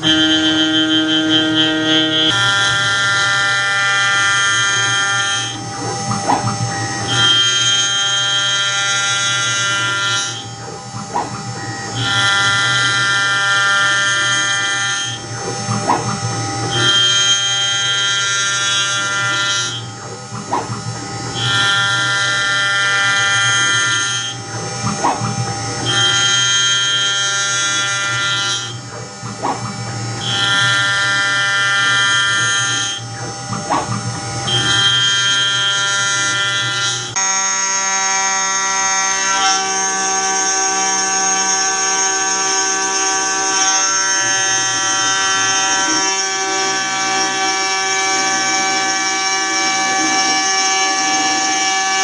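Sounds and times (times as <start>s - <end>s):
milling spindle high-pitched whine: 0.0s - 52.0s.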